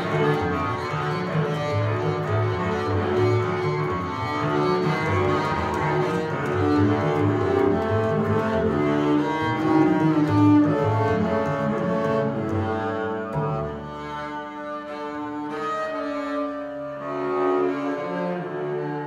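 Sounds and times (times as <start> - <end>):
double basses bowed in a duet: 0.0 - 19.0.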